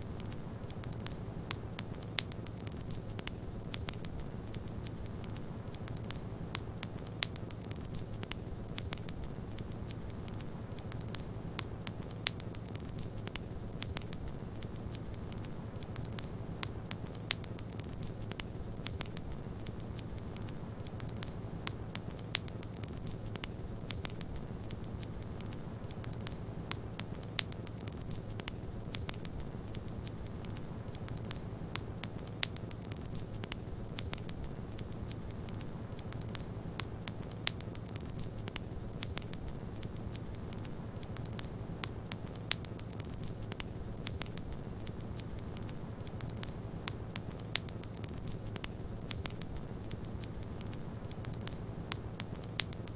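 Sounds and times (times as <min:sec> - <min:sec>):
fire popping: 0:00.0 - 0:52.9
wood fire crackling: 0:00.0 - 0:52.9.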